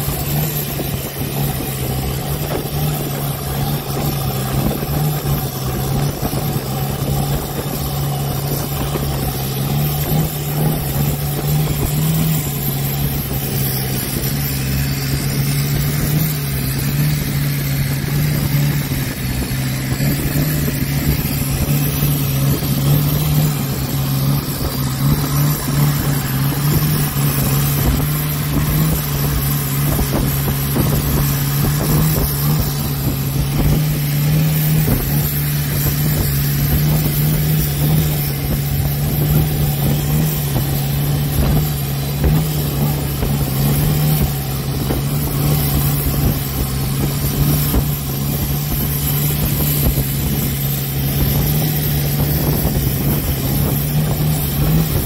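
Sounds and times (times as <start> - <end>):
boat engine droning: 0.0 - 55.0
water splashing along hull: 0.0 - 55.0.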